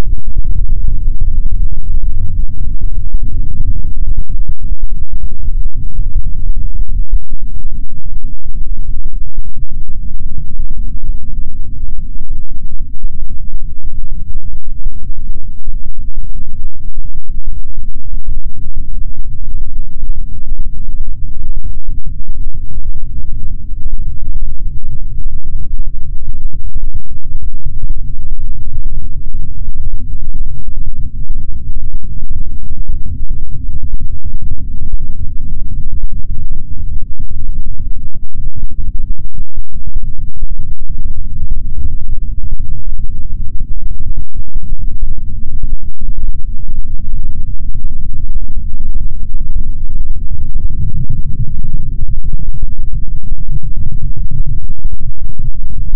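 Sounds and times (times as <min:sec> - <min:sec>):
distorted electronic bass drone: 0:00.0 - 0:55.9.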